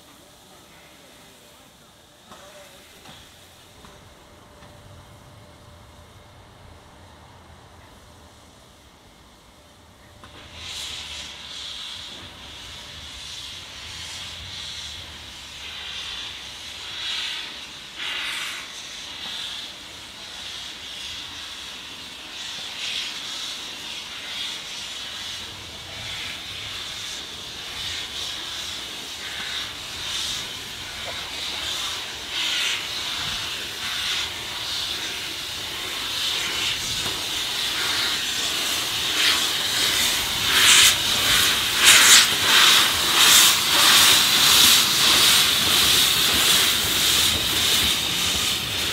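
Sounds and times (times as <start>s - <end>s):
steam locomotive hissing steam: 0.0s - 48.9s.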